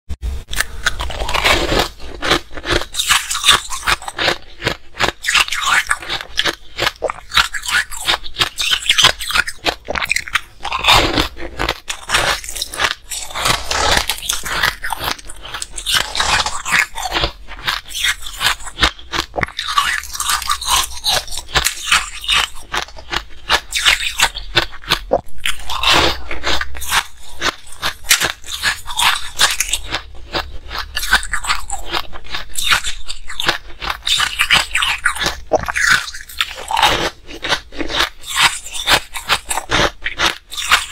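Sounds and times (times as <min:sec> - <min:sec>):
chewing crunchy ice: 0:00.4 - 0:40.9.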